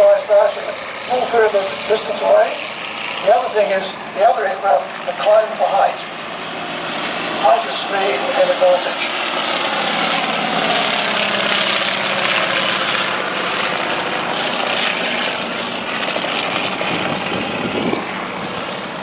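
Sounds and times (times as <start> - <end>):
propeller planes droning overhead: 0.0 - 19.0.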